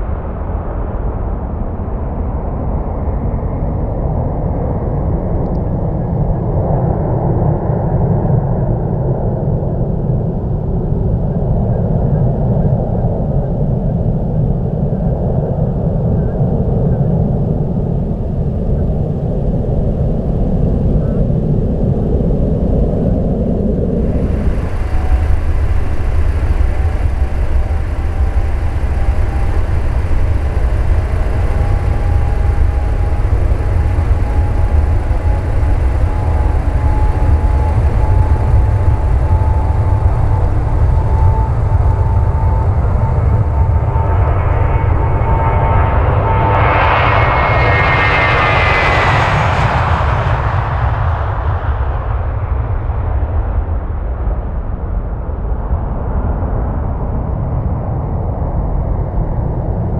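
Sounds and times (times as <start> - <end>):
jet engines low rumble: 0.0 - 59.9
jet roar with rising whine: 0.0 - 59.9.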